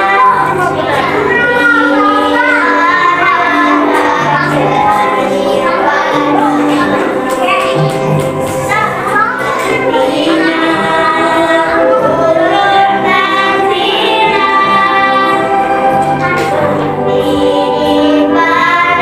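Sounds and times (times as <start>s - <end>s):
voices singing with accompaniment: 0.0s - 19.0s.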